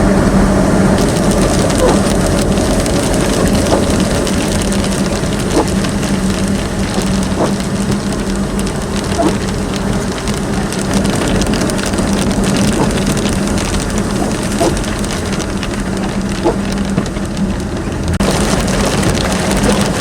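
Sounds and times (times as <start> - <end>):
rain on a moving car: 0.0 - 20.0.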